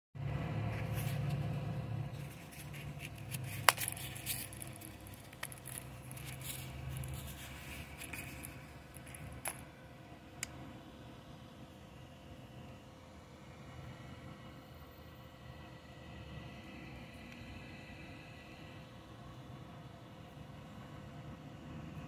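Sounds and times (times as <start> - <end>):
low steady rumble: 0.2 - 22.0.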